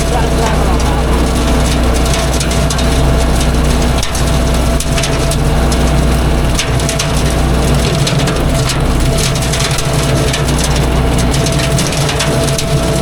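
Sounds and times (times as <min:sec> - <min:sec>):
crackling and snapping stems: 0:00.0 - 0:13.0
engine running under load: 0:00.0 - 0:13.0
mower shredding woody brush: 0:00.0 - 0:13.0.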